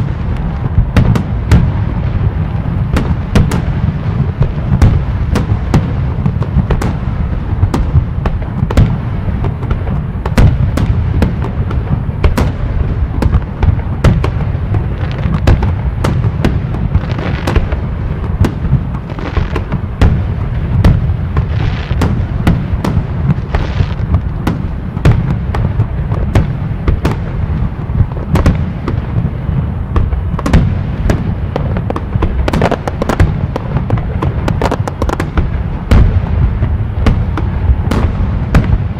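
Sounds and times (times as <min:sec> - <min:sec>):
firecrackers popping: 0:00.0 - 0:38.9.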